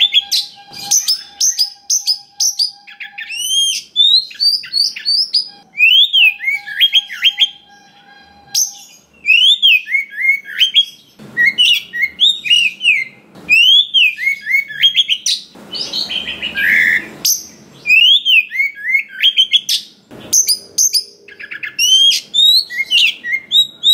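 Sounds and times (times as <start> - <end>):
magpie-robin singing: 0.0 - 23.9.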